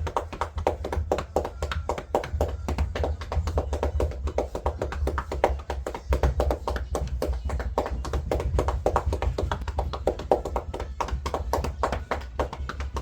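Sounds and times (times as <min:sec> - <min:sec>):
rapid hand tapping: 0:00.0 - 0:13.0.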